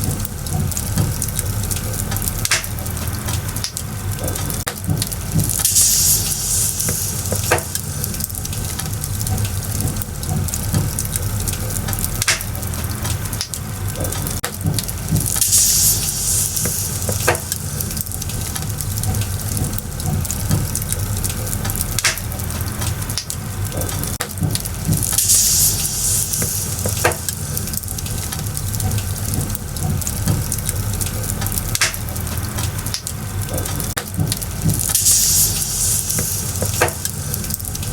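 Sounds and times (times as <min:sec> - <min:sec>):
firewood crackling and popping: 0:00.0 - 0:37.9.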